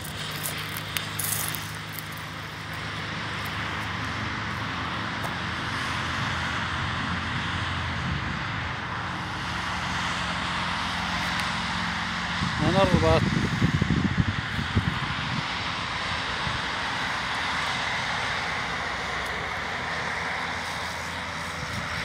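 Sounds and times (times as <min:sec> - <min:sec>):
highway traffic rushing: 0:00.0 - 0:22.0.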